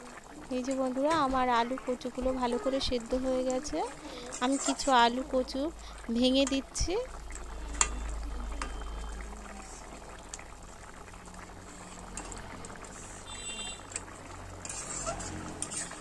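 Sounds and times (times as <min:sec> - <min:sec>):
thick gravy bubbling at a simmer: 0:00.0 - 0:16.0.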